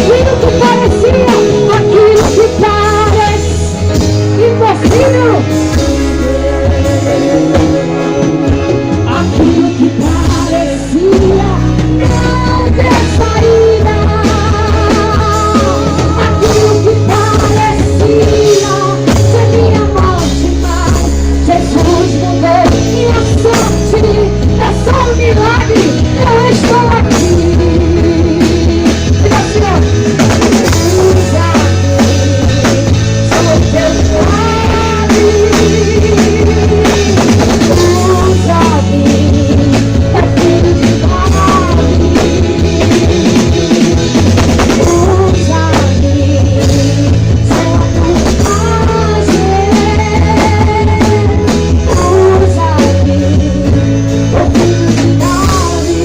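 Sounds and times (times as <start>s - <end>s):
bass: 0.0s - 56.0s
drum kit: 0.0s - 56.0s
live rock band playing: 0.0s - 56.0s.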